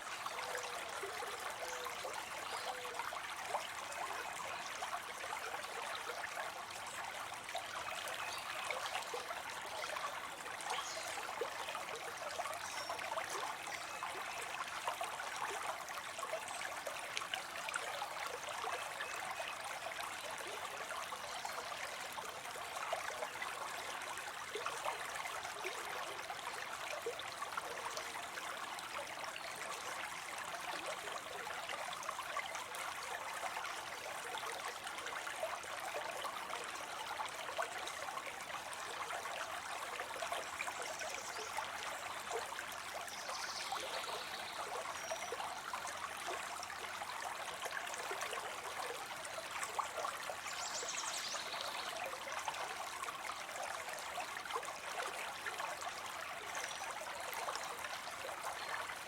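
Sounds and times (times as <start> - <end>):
water trickling into a pond: 0.0 - 59.0.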